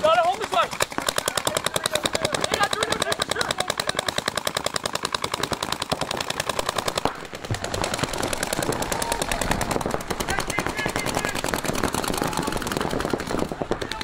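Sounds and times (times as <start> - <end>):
paintball markers firing rapidly: 0.0 - 14.0.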